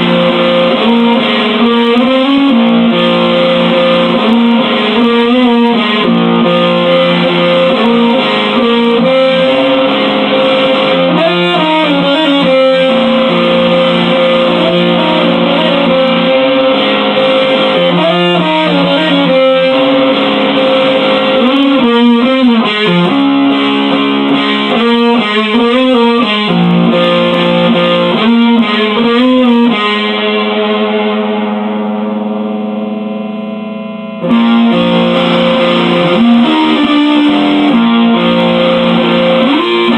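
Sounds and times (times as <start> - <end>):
electric guitar chords: 0.0 - 39.9.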